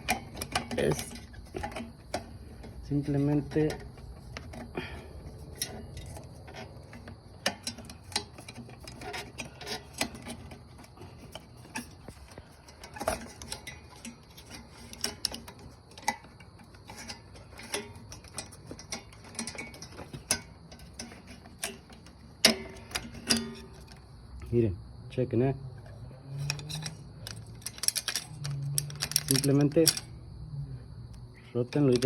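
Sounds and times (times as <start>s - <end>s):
metallic clicks from handling parts: 0.0s - 4.7s, 5.5s - 24.0s, 25.8s - 30.2s, 31.1s - 32.0s.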